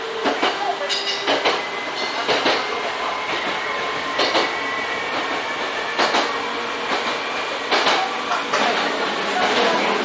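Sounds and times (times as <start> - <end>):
train running noise: 0.0 - 10.0.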